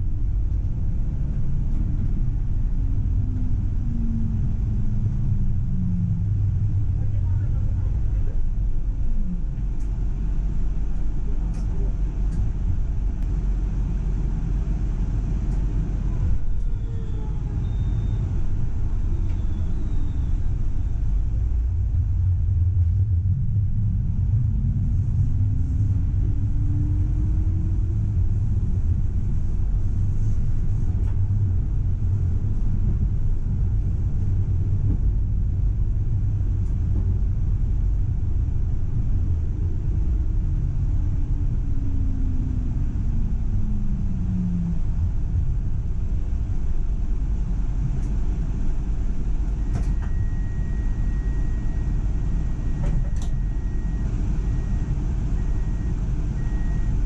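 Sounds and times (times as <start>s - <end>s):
tram motor whine: 0.0s - 57.0s
tram rumble on track: 0.0s - 57.0s.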